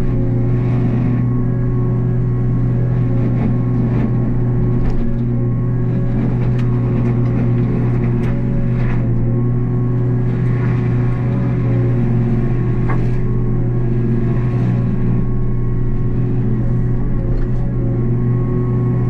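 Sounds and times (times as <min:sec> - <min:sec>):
excavator diesel engine running: 0:00.0 - 0:19.0
rotary mower cutting brush: 0:00.0 - 0:19.0.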